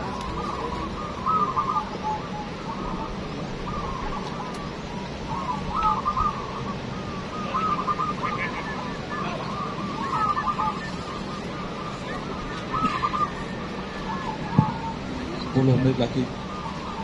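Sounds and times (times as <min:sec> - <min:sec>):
doves cooing: 0:00.0 - 0:17.0
steady background hiss: 0:00.0 - 0:17.0.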